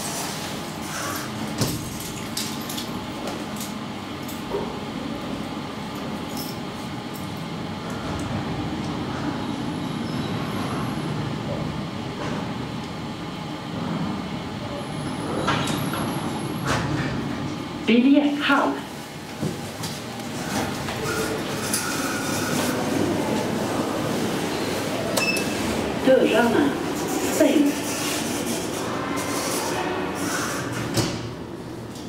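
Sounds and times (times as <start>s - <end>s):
elevator rumble and hum: 0.0s - 32.0s.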